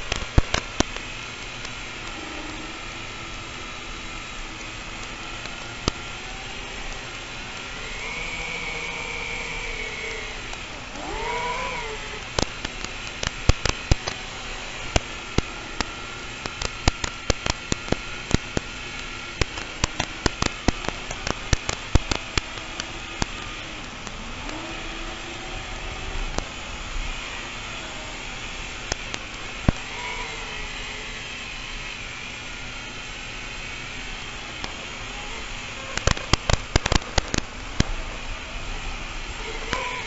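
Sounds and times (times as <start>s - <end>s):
drone motors whining: 0.0s - 40.0s
sharp irregular clicks: 0.0s - 40.0s.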